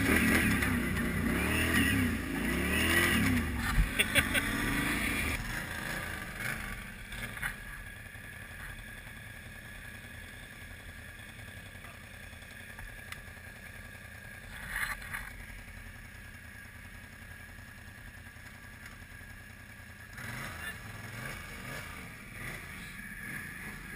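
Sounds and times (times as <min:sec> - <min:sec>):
atv engine idling: 0:00.0 - 0:23.9
engine clatters: 0:00.0 - 0:23.9.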